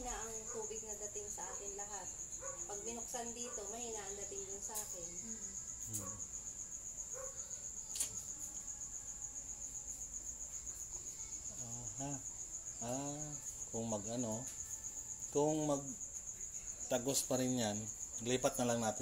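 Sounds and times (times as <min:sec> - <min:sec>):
faint background speech: 0:00.0 - 0:06.4, 0:09.6 - 0:19.0
cricket chirping trill: 0:00.0 - 0:19.0.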